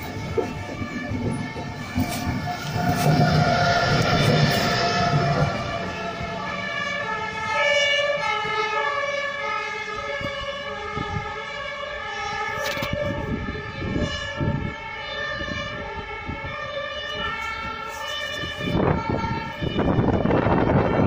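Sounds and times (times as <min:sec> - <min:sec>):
electric locomotive whining: 0:00.0 - 0:21.0.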